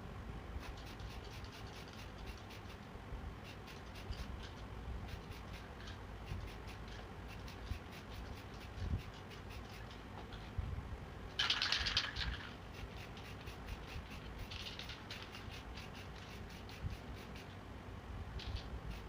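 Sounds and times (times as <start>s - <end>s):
hand scratching strokes: 0.6s - 10.6s, 11.4s - 17.6s, 18.4s - 19.0s.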